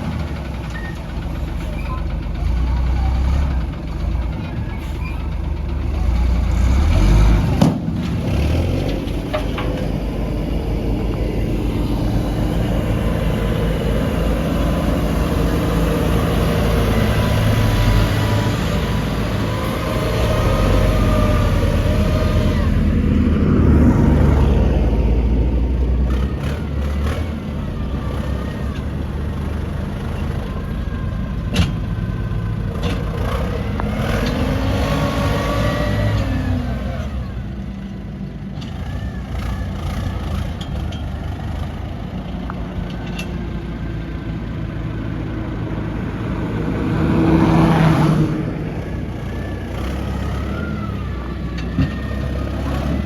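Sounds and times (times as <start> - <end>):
heavy diesel machinery revving: 0.0 - 53.0.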